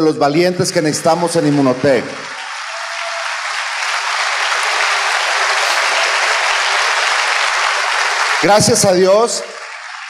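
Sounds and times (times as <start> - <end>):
audience applauding: 0.3 - 10.0.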